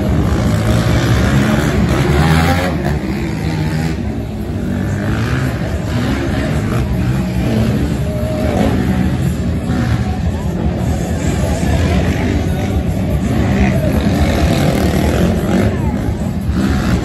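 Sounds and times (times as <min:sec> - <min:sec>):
quad engines revving: 0:00.0 - 0:17.0.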